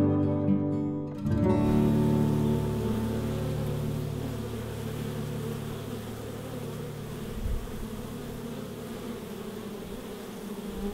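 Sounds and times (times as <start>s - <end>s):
honey bees humming: 1.4s - 10.9s.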